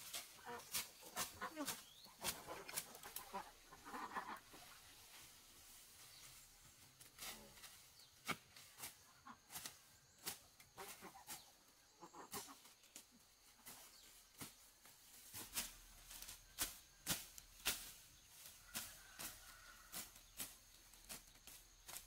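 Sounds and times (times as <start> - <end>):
grass and weeds rustling and snapping: 0.0 - 11.5, 12.3 - 22.0.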